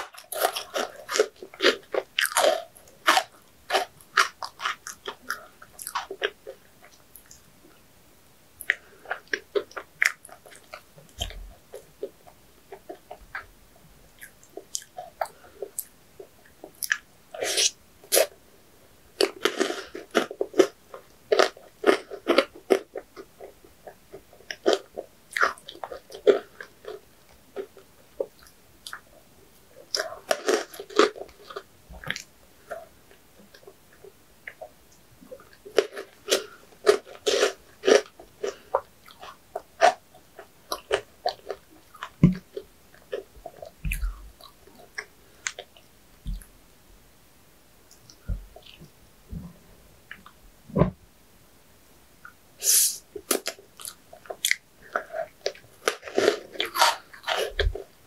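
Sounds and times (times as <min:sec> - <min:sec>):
person chewing crunchy food: 0:00.0 - 0:07.5, 0:08.6 - 0:13.5, 0:14.1 - 0:18.3, 0:19.2 - 0:29.1, 0:29.8 - 0:46.5, 0:53.2 - 0:58.0.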